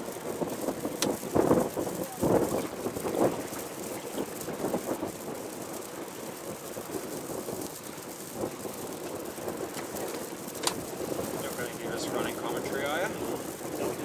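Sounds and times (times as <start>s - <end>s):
outdoor wind hiss: 0.0s - 14.0s
water noise: 0.0s - 14.0s
wind rumbling on microphone: 0.0s - 14.0s.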